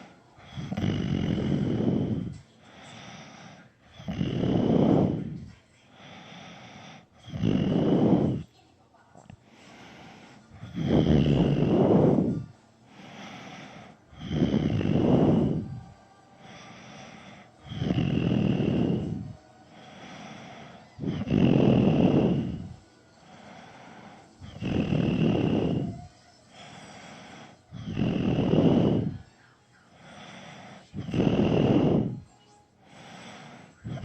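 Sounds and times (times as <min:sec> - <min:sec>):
man snoring: 0:00.0 - 0:05.4, 0:06.0 - 0:08.4, 0:09.7 - 0:29.2, 0:30.0 - 0:32.3, 0:32.9 - 0:34.0
quiet breath: 0:00.0 - 0:34.0.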